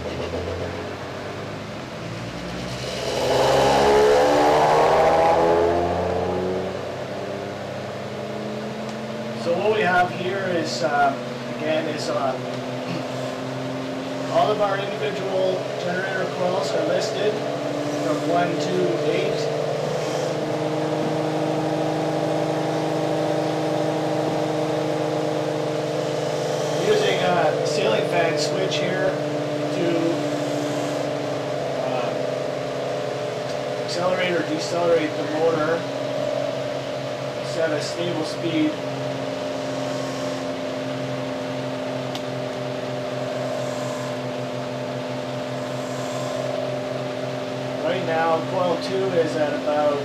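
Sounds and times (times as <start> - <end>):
low pulsing throb: 0.0 - 50.0
motor whirring hum: 0.0 - 50.0.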